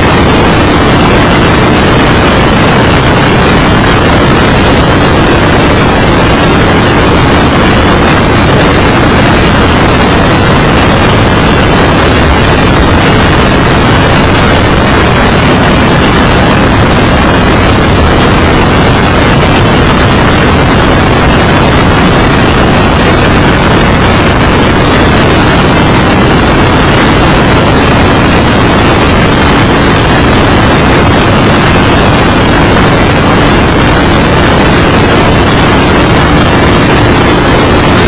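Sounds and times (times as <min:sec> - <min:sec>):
race car engine and wind rush: 0:00.0 - 0:38.0.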